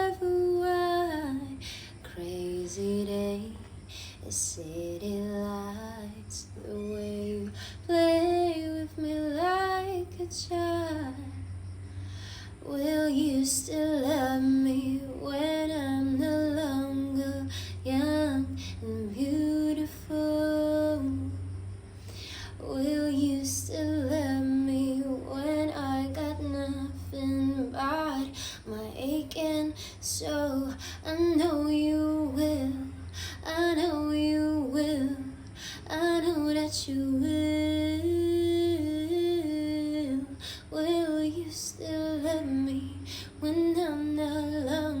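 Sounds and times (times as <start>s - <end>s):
woman singing: 0.0s - 11.6s, 12.3s - 45.0s.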